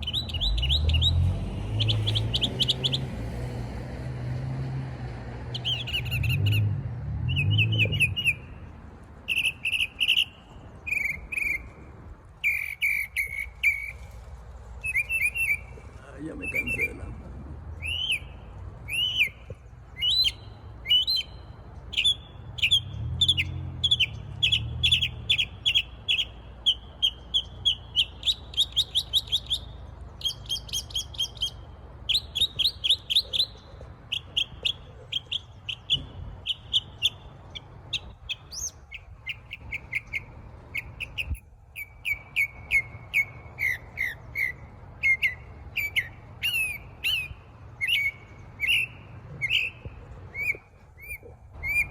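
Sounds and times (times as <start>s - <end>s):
songbird singing trills: 0.0s - 3.2s, 5.5s - 11.8s, 12.4s - 14.2s, 14.8s - 51.9s.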